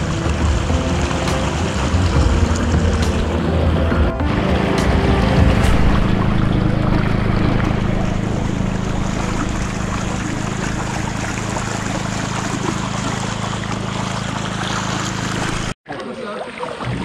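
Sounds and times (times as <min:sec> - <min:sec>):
low motor hum: 0:00.0 - 0:15.8
water rushing along hull: 0:00.0 - 0:17.0.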